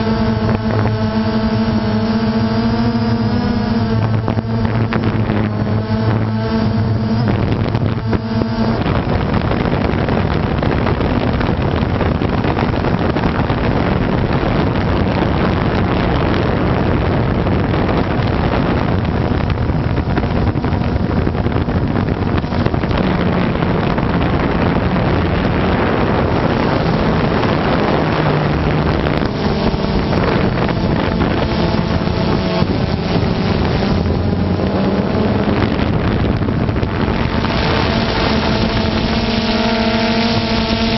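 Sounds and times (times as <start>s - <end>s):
drone motor hum: 0.0s - 40.9s
wind noise on microphone: 0.0s - 40.9s.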